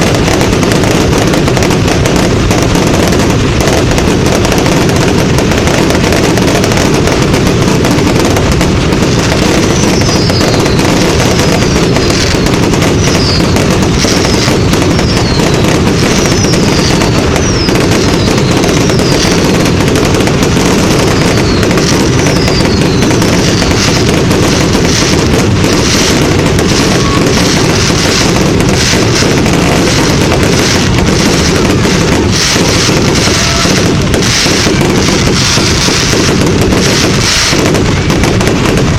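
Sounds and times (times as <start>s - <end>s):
falling firework whistles: 0.0s - 38.9s
fireworks bangs and crackling: 0.0s - 38.9s.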